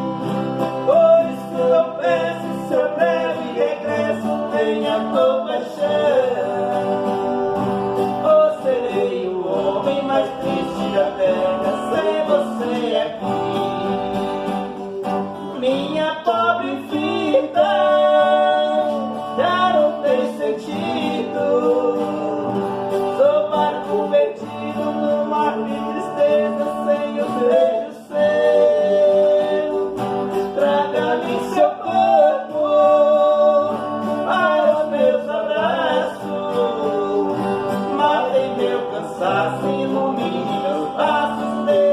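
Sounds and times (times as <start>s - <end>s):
person singing: 0.0s - 41.9s
plucked guitar: 0.0s - 41.9s.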